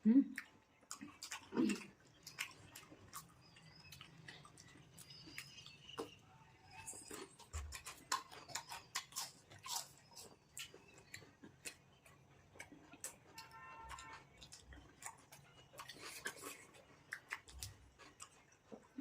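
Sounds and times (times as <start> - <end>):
person chewing wetly: 0.3 - 19.0.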